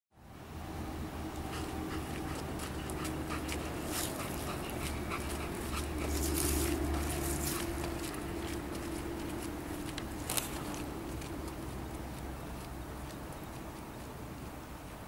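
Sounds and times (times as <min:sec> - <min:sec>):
steady low hum: 0:00.2 - 0:15.0
dog panting: 0:01.3 - 0:14.2.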